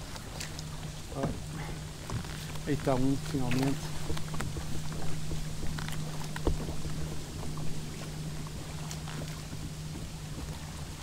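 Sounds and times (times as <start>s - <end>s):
boat engine droning: 0.0s - 11.0s
water splashes: 0.0s - 11.0s.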